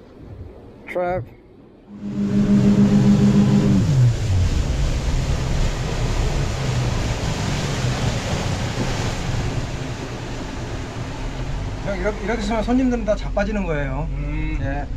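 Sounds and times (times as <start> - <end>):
rushing wind and water: 0.0 - 14.9
motorboat engine running: 1.9 - 14.9.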